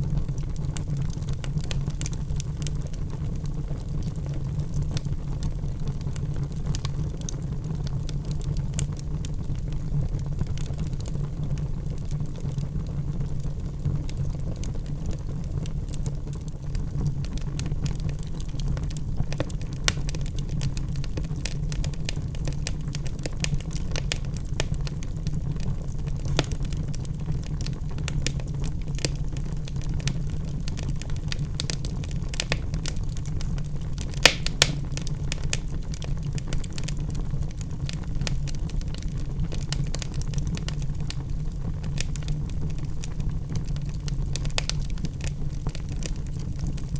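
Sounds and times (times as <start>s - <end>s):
fire rumbling: 0.0s - 46.9s
wood crackling and popping: 0.0s - 46.9s.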